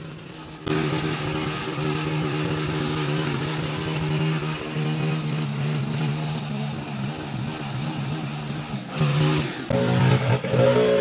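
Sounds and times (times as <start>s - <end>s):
blade cutting soil gritty hiss: 0.0s - 10.9s
edger engine running: 0.0s - 11.0s.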